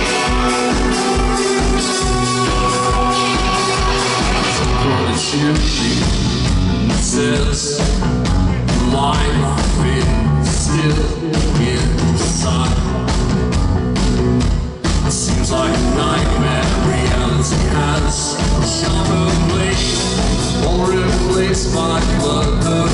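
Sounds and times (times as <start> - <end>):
post-punk band playing live: 0.0 - 22.9.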